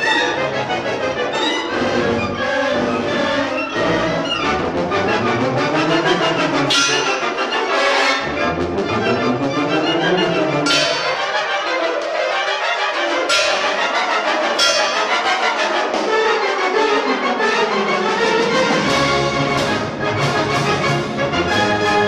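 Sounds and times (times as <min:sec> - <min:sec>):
wind band playing chords: 0:00.0 - 0:22.0.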